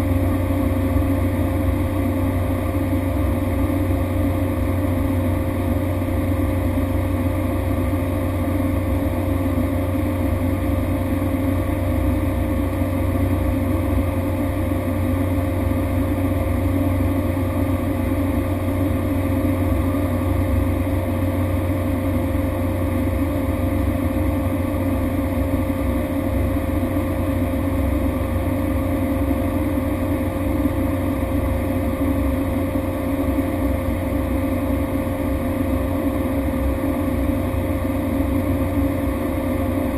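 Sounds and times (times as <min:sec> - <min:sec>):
propeller engine drone: 0:00.0 - 0:39.9.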